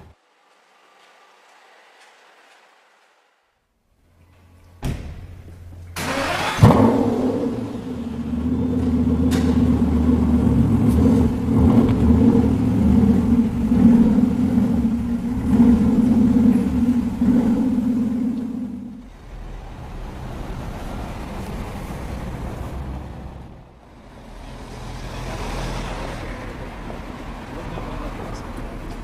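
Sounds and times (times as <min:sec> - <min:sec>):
car engine starting and idling: 0:00.0 - 0:29.0.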